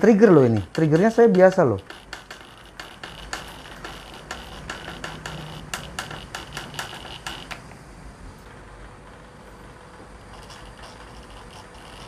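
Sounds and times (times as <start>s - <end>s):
faint motor whine: 0.0s - 12.0s.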